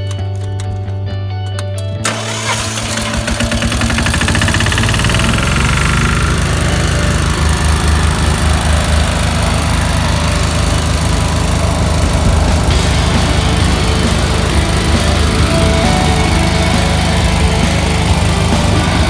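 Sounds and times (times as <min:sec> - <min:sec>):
construction machine engine pulsing: 0:02.0 - 0:19.0.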